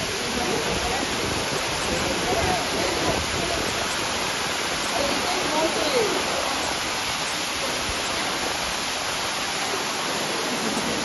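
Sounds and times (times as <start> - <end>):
water rushing over waterfall: 0.0 - 11.0.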